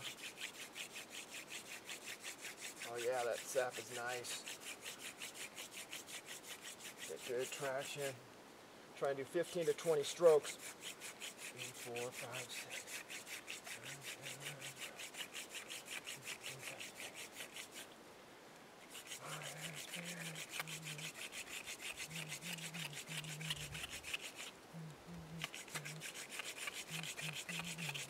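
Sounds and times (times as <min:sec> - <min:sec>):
wooden spindle rasping in hearth board: 0:00.0 - 0:08.1, 0:09.2 - 0:17.9, 0:18.8 - 0:24.6, 0:25.3 - 0:28.0.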